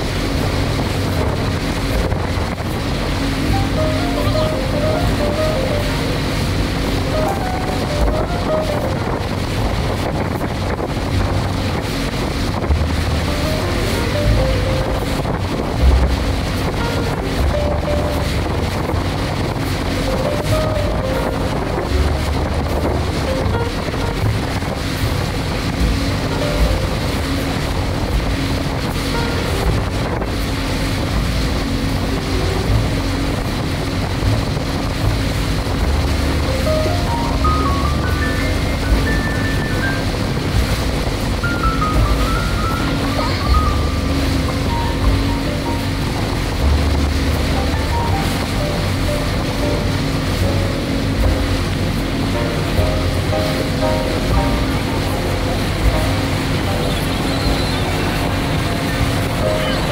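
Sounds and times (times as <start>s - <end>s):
outboard engine drone: 0.0s - 59.9s
water rushing past boat hull: 0.0s - 59.9s
wind buffeting microphone: 0.0s - 59.9s.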